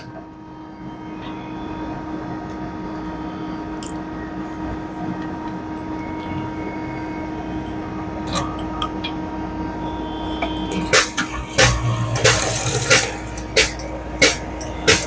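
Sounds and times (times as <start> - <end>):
frozen drink machine humming: 0.0 - 15.0.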